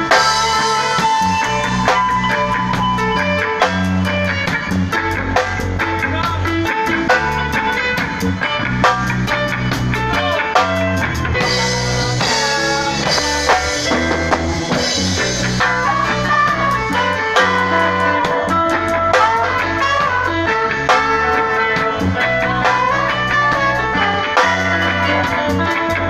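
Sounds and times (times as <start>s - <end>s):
bass guitar: 0.0s - 26.0s
electric guitars: 0.0s - 26.0s
steady drum beat: 0.0s - 26.0s.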